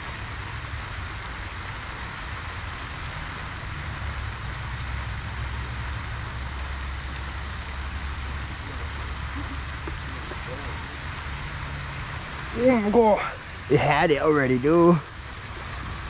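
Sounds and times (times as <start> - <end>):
fountain spray splashing on water: 0.0 - 16.0.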